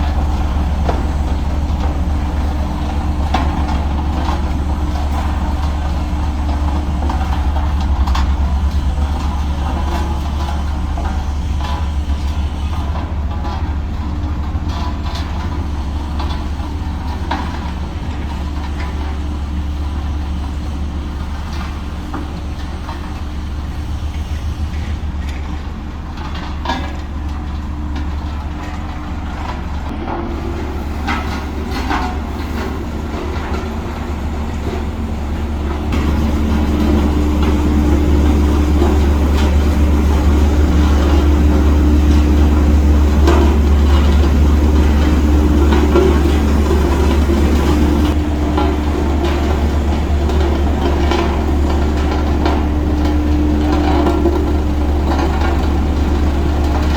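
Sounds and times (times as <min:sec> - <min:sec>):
diesel machinery droning: 0:00.0 - 0:56.9.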